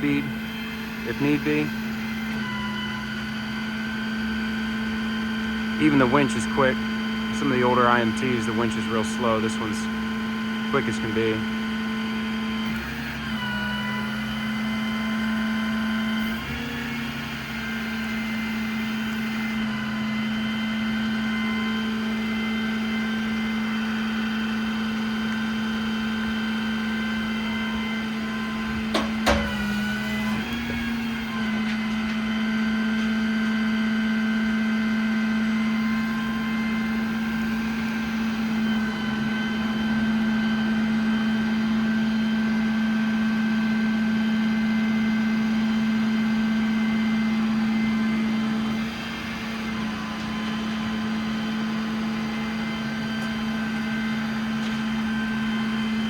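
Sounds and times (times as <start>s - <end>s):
diesel engine driving hydraulic pump: 0.0s - 56.0s.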